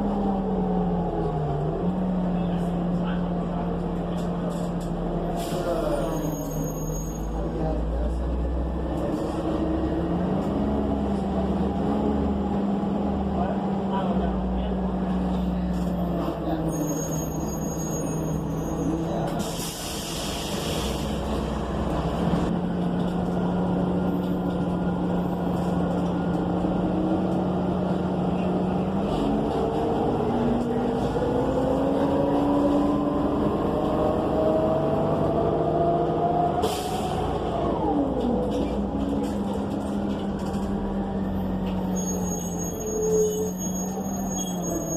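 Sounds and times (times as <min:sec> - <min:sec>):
bus engine: 0:00.0 - 0:44.9.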